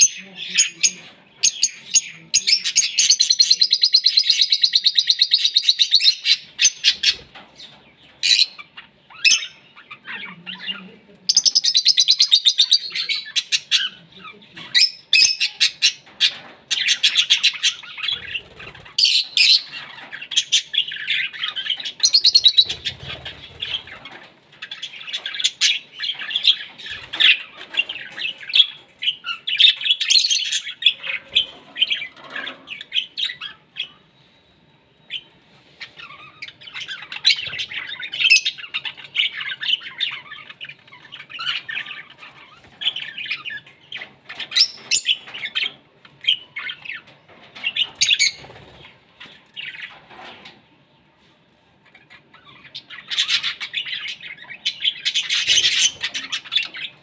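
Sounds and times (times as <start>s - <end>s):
birds chirping and chattering: 0.0s - 57.0s.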